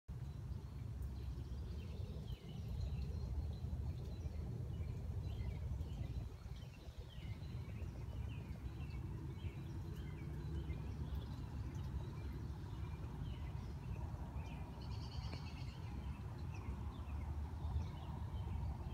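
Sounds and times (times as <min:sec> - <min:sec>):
small songbirds chirping: 0:00.1 - 0:18.9
steady low rumble: 0:00.2 - 0:18.9.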